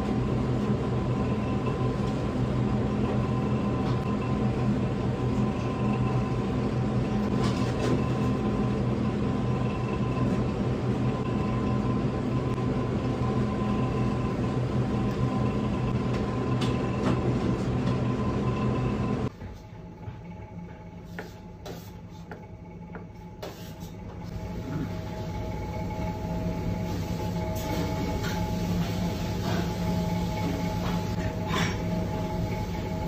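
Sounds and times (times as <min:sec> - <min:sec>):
low machine drone with whine: 0:00.0 - 0:21.0, 0:24.0 - 0:33.0.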